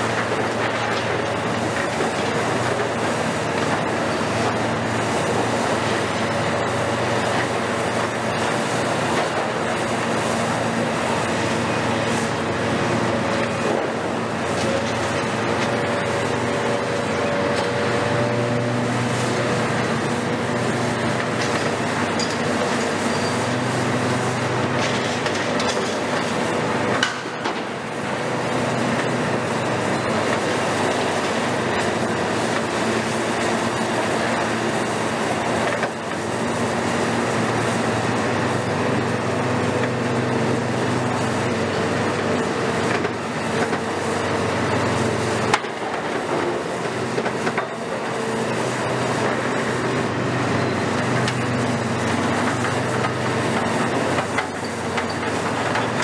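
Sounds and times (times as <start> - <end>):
excavator engine and hydraulics: 0.0 - 56.0.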